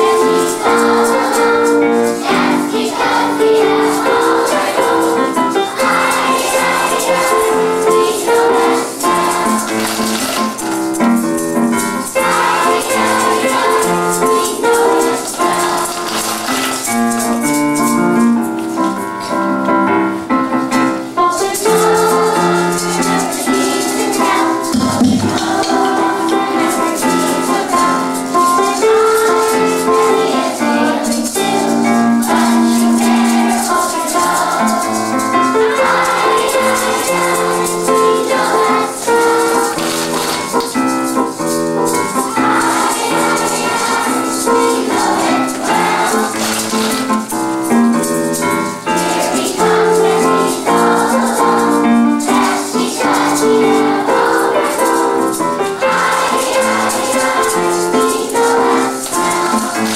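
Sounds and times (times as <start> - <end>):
children singing: 0.0 - 19.0, 20.9 - 59.9
hand rattles shaken: 0.0 - 19.8, 20.6 - 59.9.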